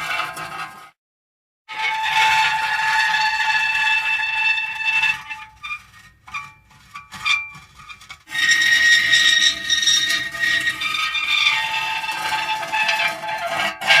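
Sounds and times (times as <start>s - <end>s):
metal squealing: 1.7s - 14.0s.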